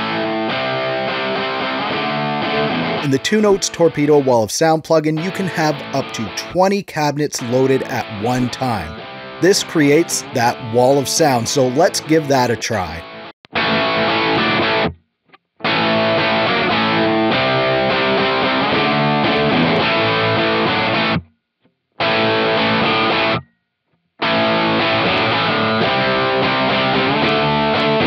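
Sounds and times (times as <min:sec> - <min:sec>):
distorted electric guitar chords: 0:00.0 - 0:04.5, 0:05.1 - 0:06.6, 0:07.2 - 0:15.0, 0:15.6 - 0:21.3, 0:22.0 - 0:23.5, 0:24.2 - 0:28.0.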